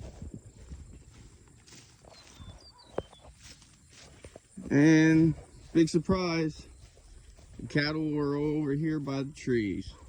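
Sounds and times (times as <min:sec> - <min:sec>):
footsteps on wet ground: 0:00.0 - 0:10.0.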